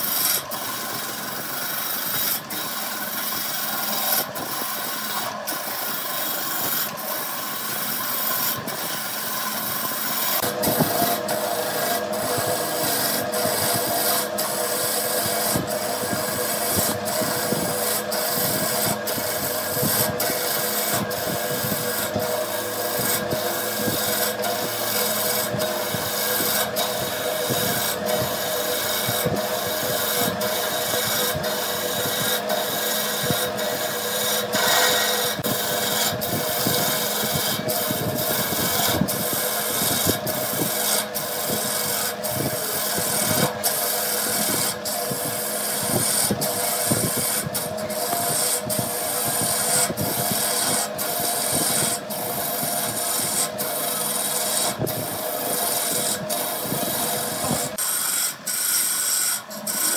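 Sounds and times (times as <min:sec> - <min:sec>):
tool scraping wood: 0:00.0 - 0:59.9
woodworking machine humming: 0:00.0 - 0:59.9.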